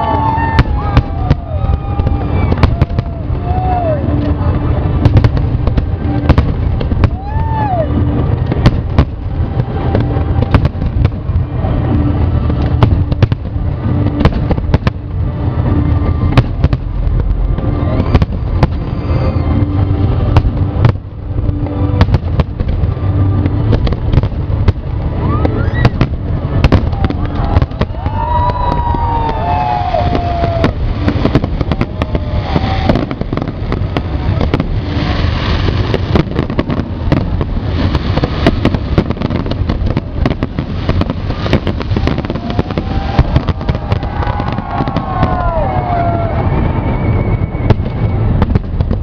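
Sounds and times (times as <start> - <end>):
fireworks sharp bangs: 0.0 - 49.0.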